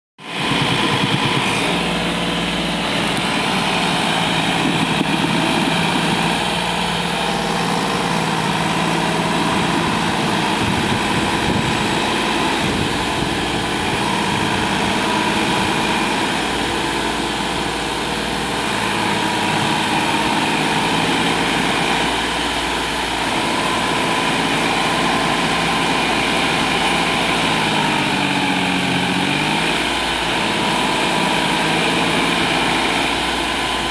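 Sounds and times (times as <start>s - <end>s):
tractor diesel engine working: 0.2s - 33.9s.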